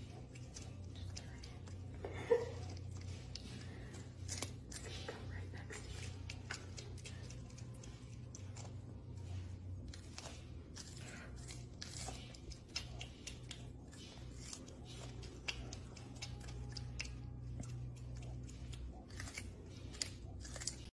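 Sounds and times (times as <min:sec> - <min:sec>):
low background hum: 0:00.0 - 0:20.9
porcupine gnawing corn: 0:00.0 - 0:20.9.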